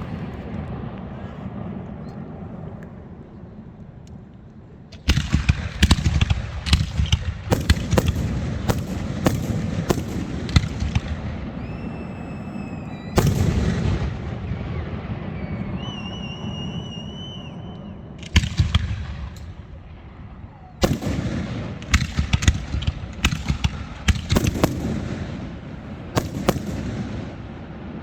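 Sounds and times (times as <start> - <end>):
fireworks bangs: 5.0 - 28.0
whistling fireworks: 5.0 - 28.0.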